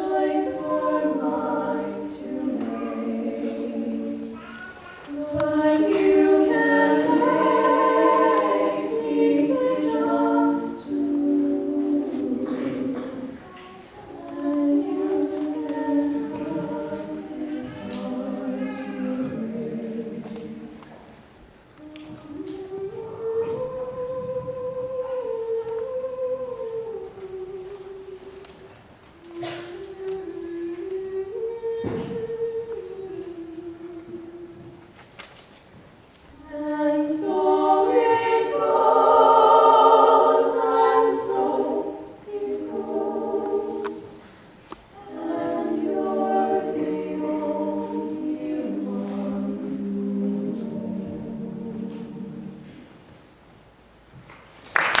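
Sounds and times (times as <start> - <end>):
women singing a cappella harmony: 0.0 - 13.4, 14.0 - 21.0, 21.8 - 34.9, 36.3 - 53.0.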